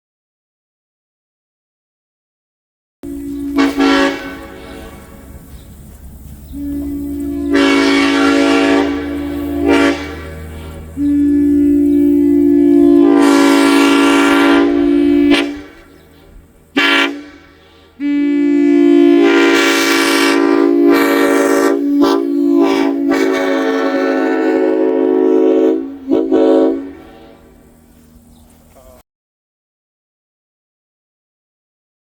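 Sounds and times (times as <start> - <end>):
locomotive air horn: 3.0 - 29.0.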